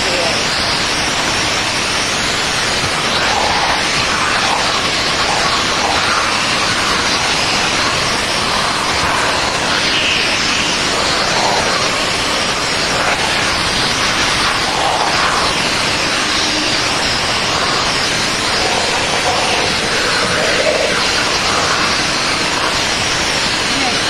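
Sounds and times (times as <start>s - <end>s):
vacuum air rushing through hose: 0.1s - 24.0s.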